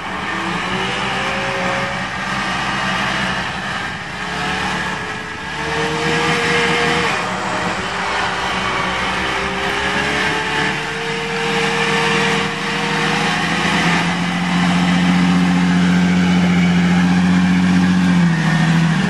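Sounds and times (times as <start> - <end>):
engine running under load: 0.0 - 19.0
steady whine: 0.0 - 19.0.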